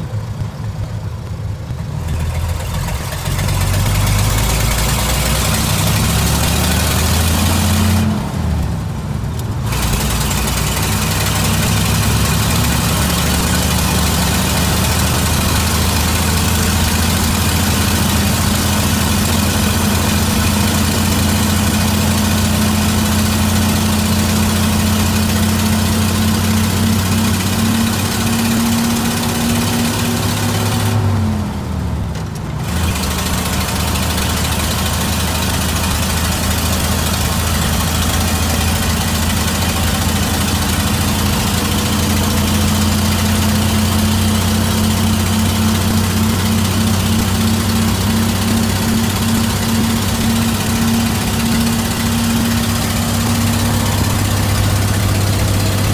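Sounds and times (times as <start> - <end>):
truck engine running: 0.0 - 55.9.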